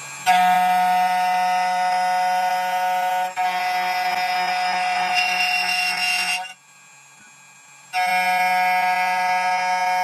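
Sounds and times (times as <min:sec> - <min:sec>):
key cutting machine motor whine: 0:00.1 - 0:10.0.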